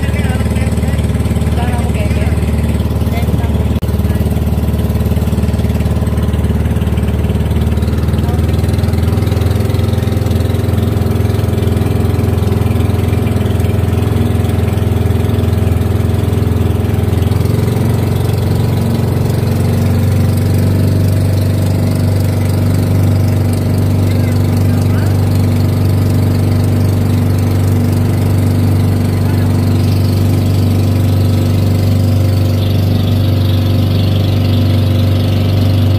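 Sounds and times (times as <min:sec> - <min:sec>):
boat engine drone: 0:00.0 - 0:35.9.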